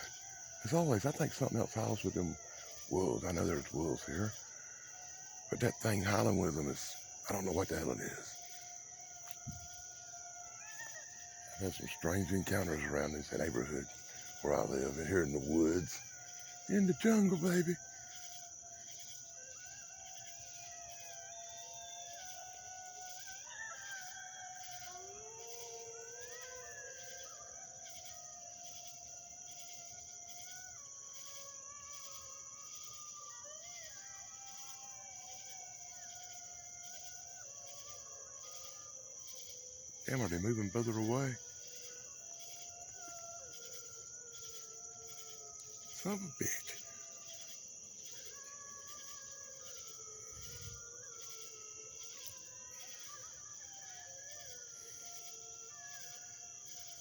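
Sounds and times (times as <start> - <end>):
distant canids howling: 0.0 - 57.0
pulsing insect chorus: 0.0 - 57.0.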